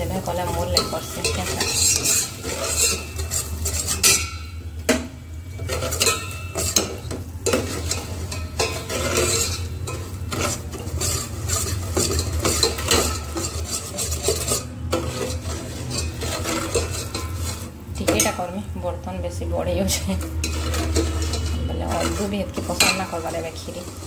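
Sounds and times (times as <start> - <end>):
metal spoon scraping a pot: 0.0 - 18.6, 19.9 - 24.0
sugar sizzling: 0.0 - 24.0
spoon clinking on pot: 0.6 - 18.4, 20.2 - 23.3.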